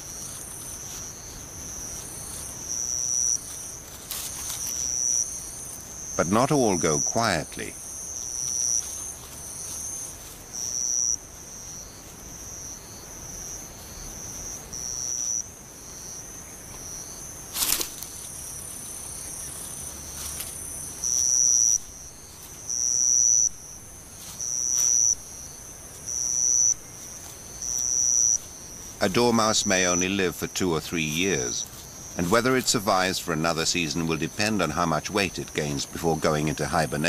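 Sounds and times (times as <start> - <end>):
high hiss of insects: 0.0 - 37.0
insect pulsing call: 0.0 - 37.0.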